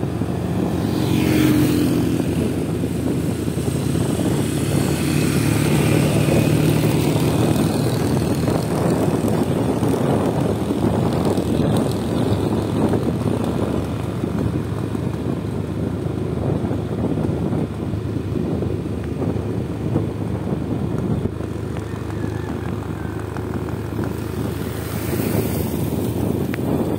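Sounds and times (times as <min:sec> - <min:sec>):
vehicle engine and tyres rumbling: 0:00.0 - 0:26.9.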